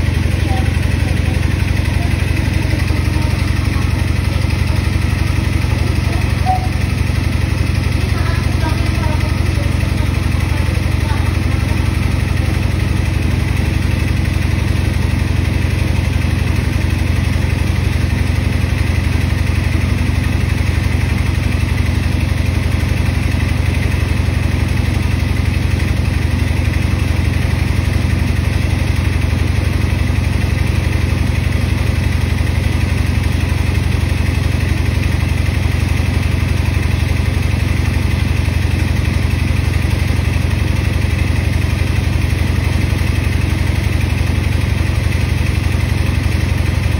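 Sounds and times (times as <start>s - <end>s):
washing machine drum spinning: 0.0s - 46.9s.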